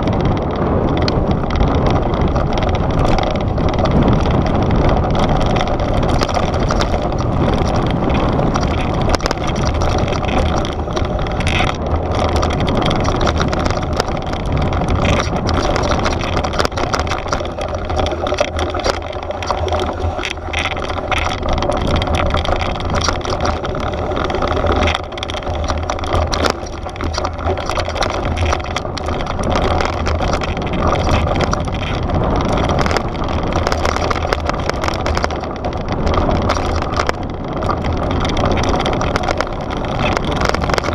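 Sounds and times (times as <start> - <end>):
bike rattling: 0.0 - 40.9
bike tyres crunching over gravel: 0.0 - 40.9
wind buffeting microphone: 0.0 - 40.9.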